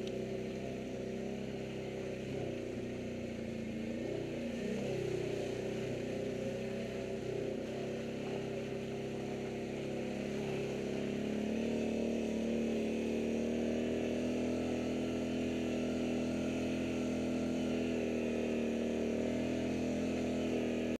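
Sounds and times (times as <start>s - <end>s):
quad bike engine cruising: 0.0s - 21.0s.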